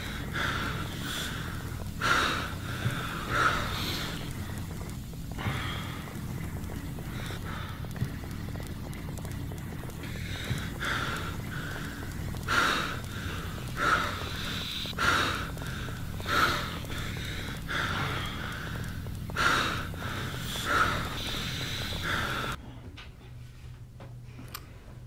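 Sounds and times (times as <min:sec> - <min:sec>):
man breathing heavily: 0:00.0 - 0:22.6
steady low hum: 0:00.0 - 0:25.0.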